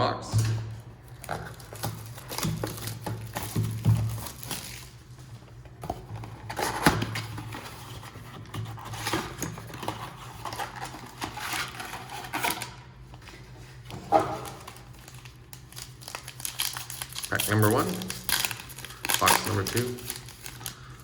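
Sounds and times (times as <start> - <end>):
plastic and cardboard rustling: 0.4 - 21.0.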